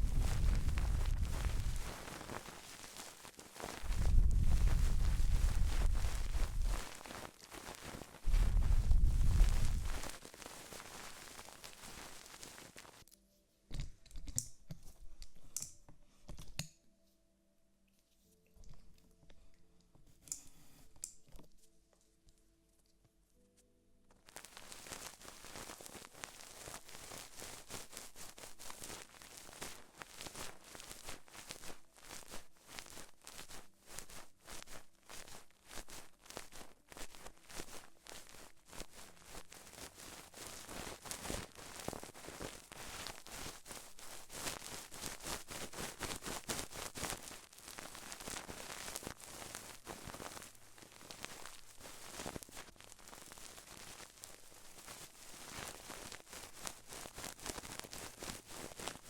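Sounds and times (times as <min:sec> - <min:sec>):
close-up crackling and rustling: 0:00.0 - 0:16.8, 0:17.9 - 0:59.0.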